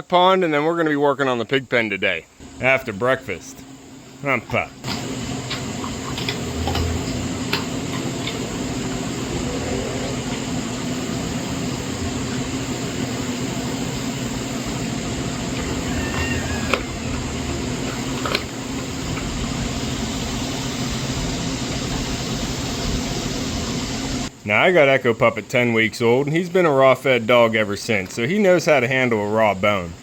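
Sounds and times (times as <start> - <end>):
steady low hum with hiss: 0.0 - 30.0.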